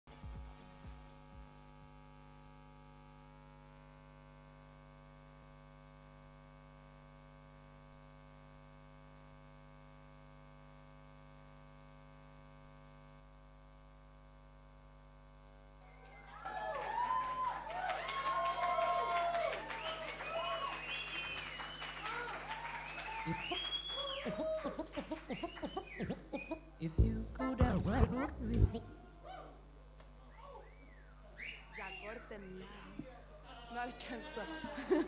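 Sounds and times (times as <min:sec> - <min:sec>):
faint electrical mains hum: 0:00.1 - 0:35.0.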